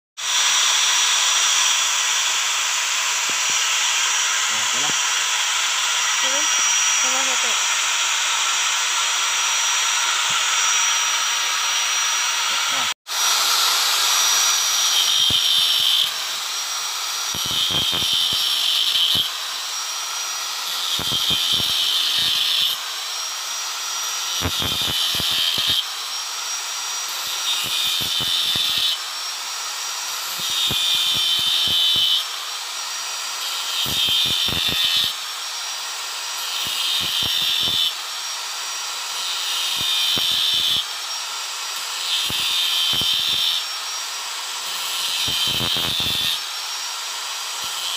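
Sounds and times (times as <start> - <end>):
angle grinder carving wood: 0.2 - 47.9.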